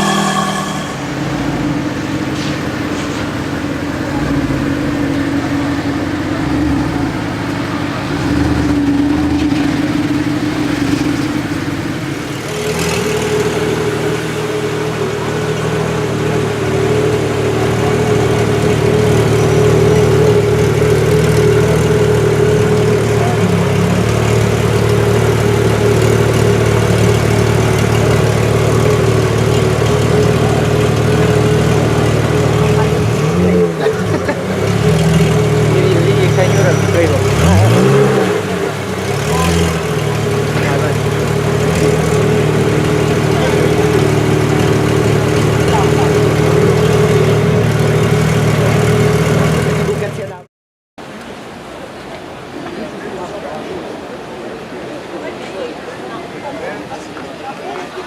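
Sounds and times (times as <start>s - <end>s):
sports car engine idling: 0.0s - 50.4s
deeper engine idling: 0.0s - 50.5s.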